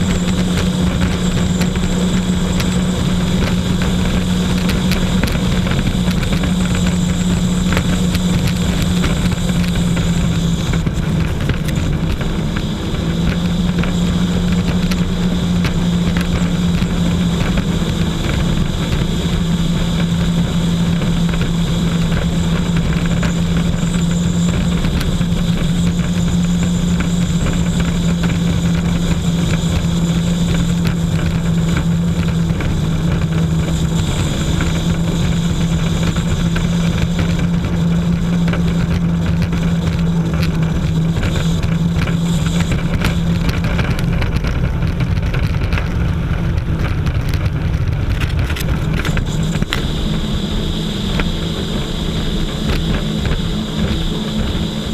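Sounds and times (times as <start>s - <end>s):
jet ski engine running: 0.0s - 54.9s
steady rushing noise: 0.0s - 54.9s.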